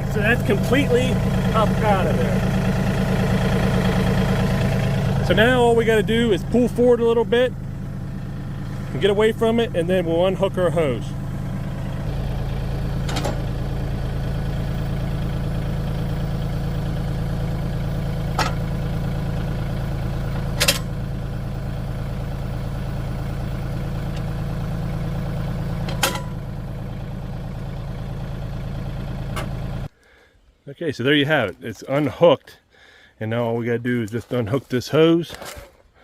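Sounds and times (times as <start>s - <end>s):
tractor diesel engine running: 0.0s - 30.3s.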